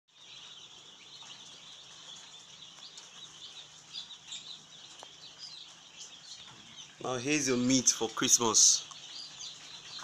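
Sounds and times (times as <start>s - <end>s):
chicks peeping: 0.1s - 10.0s.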